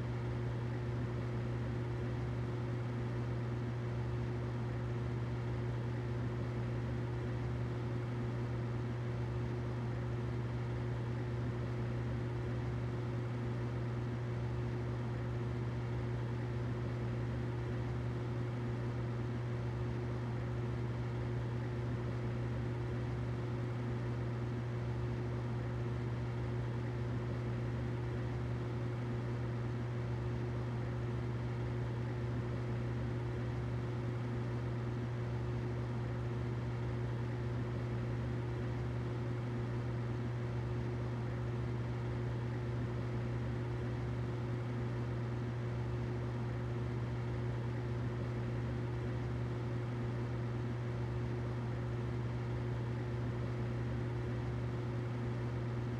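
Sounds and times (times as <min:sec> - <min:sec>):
humidifier running: 0:00.0 - 0:55.9.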